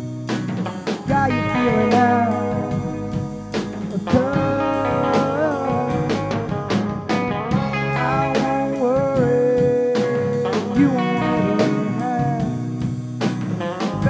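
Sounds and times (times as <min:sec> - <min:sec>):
bass: 0:00.0 - 0:14.0
lead guitar bending notes: 0:00.0 - 0:14.0
steady drum beat: 0:00.0 - 0:14.0.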